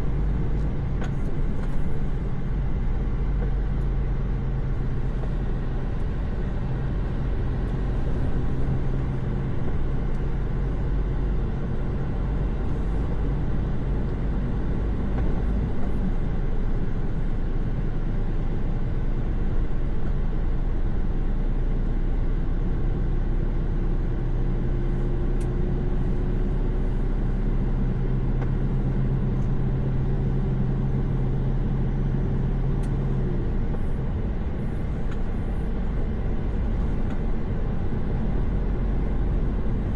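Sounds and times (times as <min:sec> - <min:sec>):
road noise rumble: 0:00.0 - 0:39.9
truck engine droning: 0:00.0 - 0:39.9.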